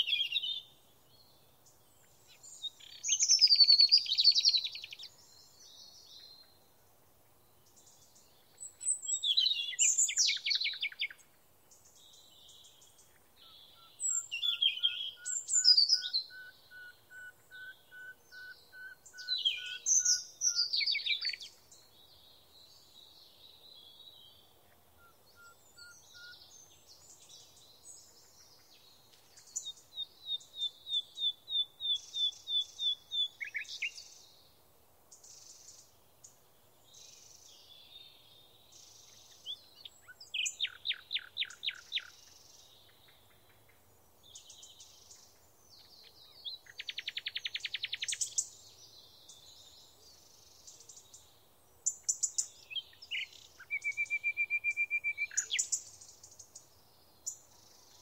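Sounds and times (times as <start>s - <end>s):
birds singing trills: 0.0s - 6.7s, 7.3s - 58.0s
faint bird chirps: 0.0s - 58.0s.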